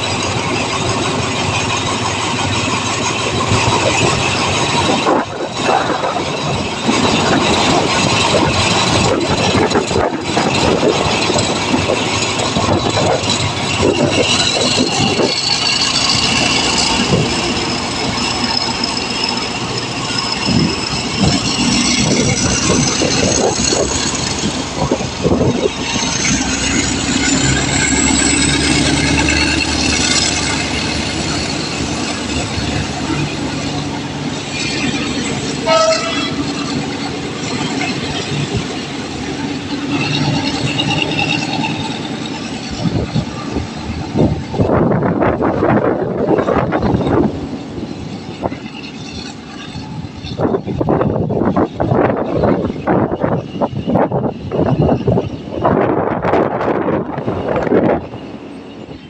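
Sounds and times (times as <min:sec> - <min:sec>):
diesel train engine and wheels: 0:00.0 - 0:59.0.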